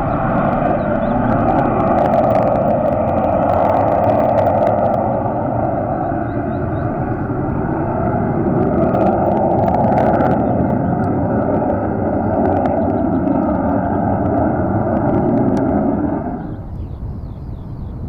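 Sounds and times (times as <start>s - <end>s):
crackling clicks: 0.0s - 16.9s
fighter jet engine: 0.0s - 18.0s.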